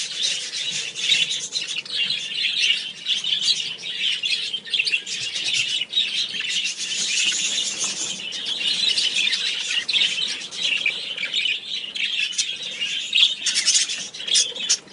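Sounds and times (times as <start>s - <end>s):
flock of budgerigars chirping: 0.0s - 14.9s.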